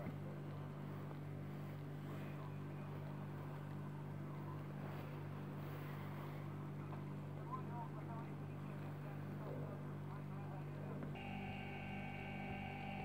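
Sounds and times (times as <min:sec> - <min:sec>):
computer fan humming: 0:00.0 - 0:13.0.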